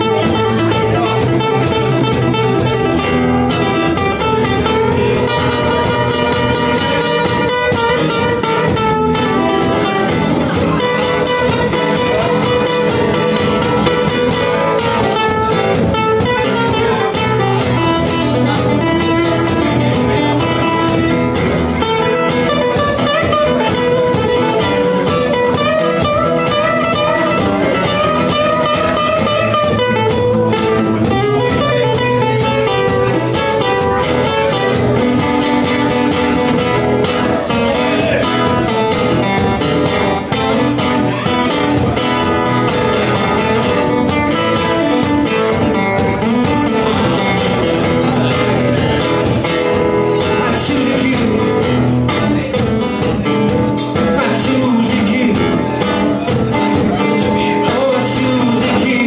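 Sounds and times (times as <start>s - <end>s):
quickly picked guitar notes: 0.0s - 59.0s
steady guitar accompaniment: 0.0s - 59.0s.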